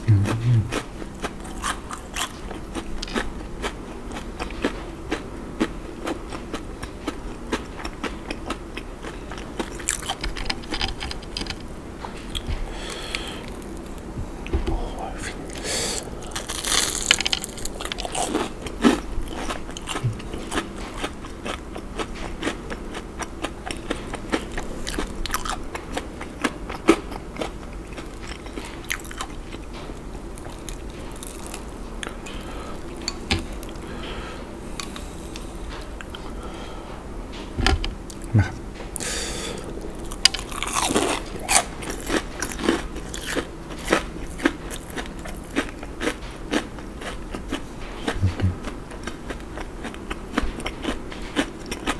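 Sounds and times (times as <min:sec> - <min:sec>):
crunchy food chewing: 0:00.0 - 0:36.7, 0:37.4 - 0:51.9.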